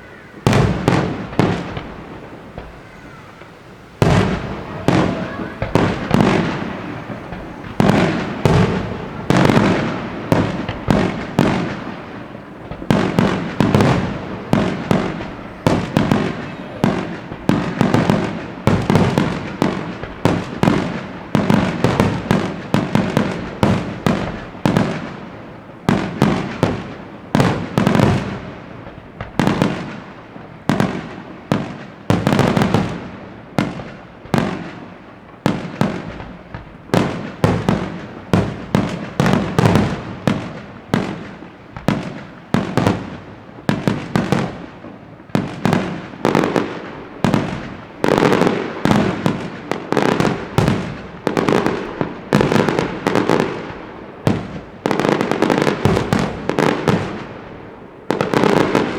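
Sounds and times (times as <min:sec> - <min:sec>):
fireworks bangs: 0:00.0 - 0:58.9.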